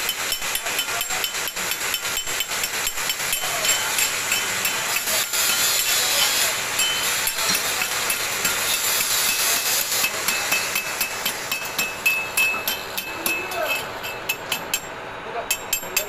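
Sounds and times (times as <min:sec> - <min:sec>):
metal tool tapping and scraping: 0:00.1 - 0:14.9, 0:15.5 - 0:16.0.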